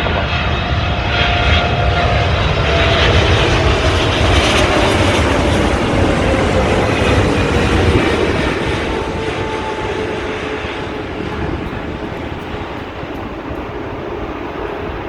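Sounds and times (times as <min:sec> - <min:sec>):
jet engines rumbling with whine: 0:00.0 - 0:15.0.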